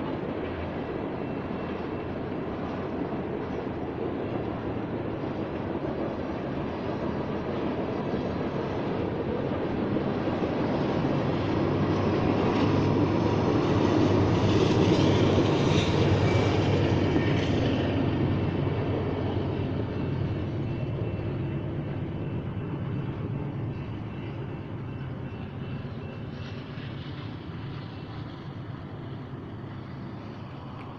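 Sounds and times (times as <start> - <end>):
freight train rumbling: 0.0 - 30.9.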